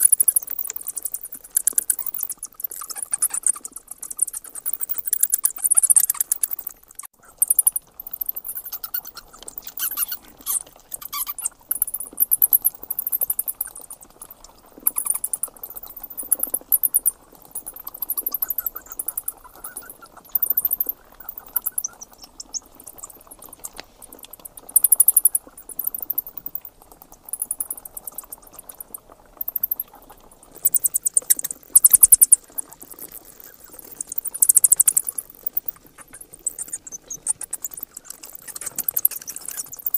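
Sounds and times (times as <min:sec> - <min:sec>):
bats clicking and chirping: 0:00.0 - 0:39.9.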